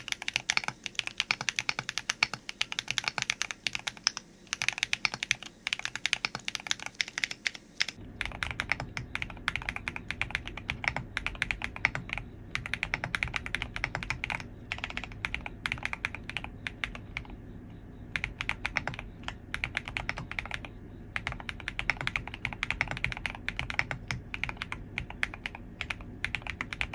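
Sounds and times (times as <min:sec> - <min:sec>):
typing on mechanical keyboard: 0:00.0 - 0:17.4, 0:18.1 - 0:26.9
steady low hum: 0:00.0 - 0:26.9.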